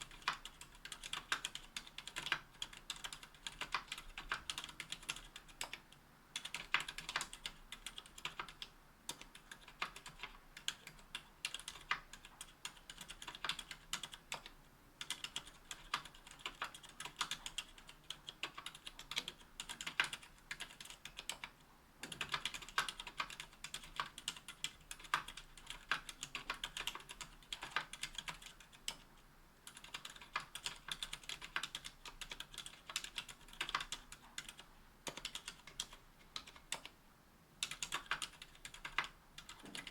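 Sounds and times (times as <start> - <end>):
soft muted keyboard keystrokes: 0.0 - 37.0, 37.6 - 39.9.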